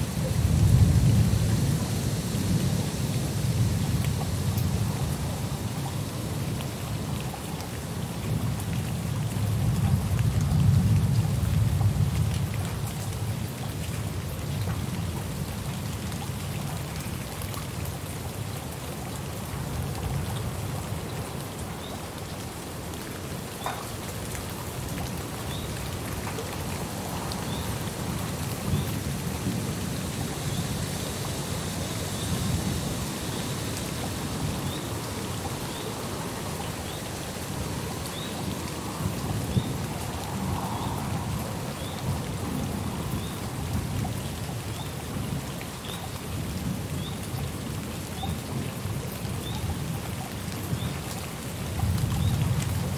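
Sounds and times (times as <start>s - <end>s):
heavy rain: 0.0s - 52.9s.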